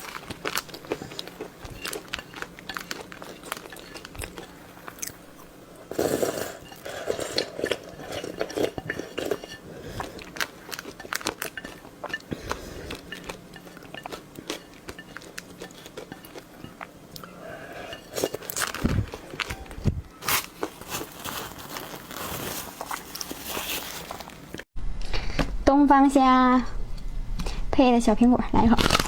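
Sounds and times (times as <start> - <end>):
crunching and chewing seafood: 0.0 - 24.7.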